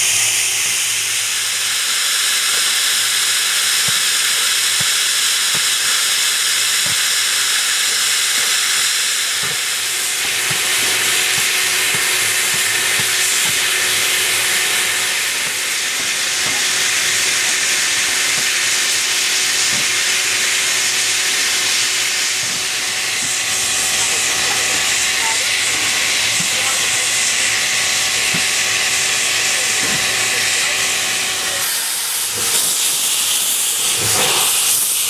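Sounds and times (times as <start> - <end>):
steam locomotive hissing: 0.0 - 35.0.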